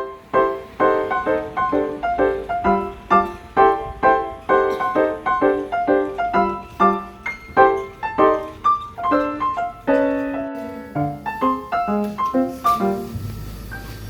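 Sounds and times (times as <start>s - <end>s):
bouncy piano tune: 0.0s - 14.0s.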